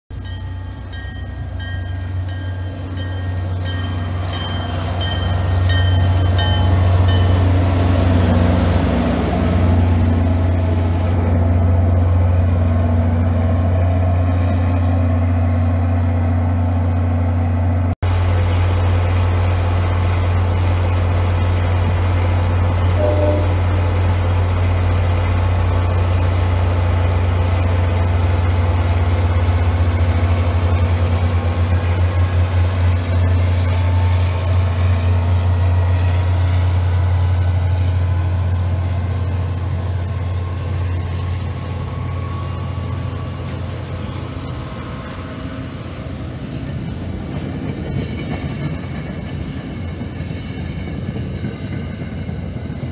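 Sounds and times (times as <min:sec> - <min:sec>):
diesel locomotive engine drone: 0:00.1 - 0:52.9.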